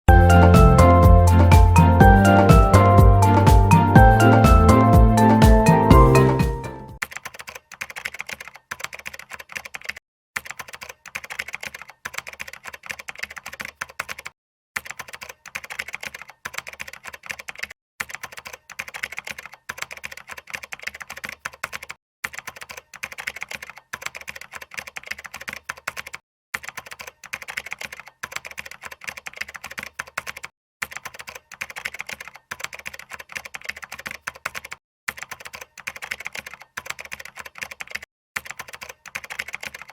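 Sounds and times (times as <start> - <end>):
rapid keyboard typing: 0.1 - 39.9.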